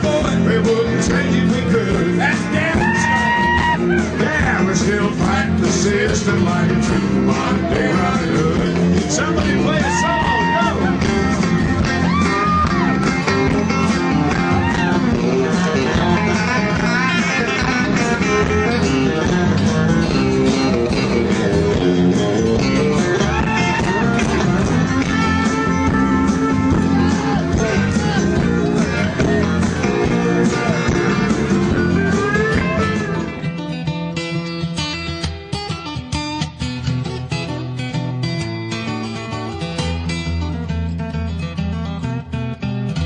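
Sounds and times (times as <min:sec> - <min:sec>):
blues-rock band playing: 0:00.0 - 0:43.0
guitar with bent notes: 0:00.0 - 0:43.0.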